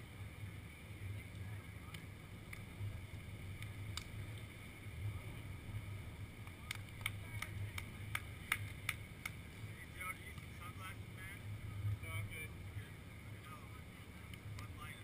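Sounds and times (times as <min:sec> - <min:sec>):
low rumble of beach ambience: 0:00.0 - 0:15.0.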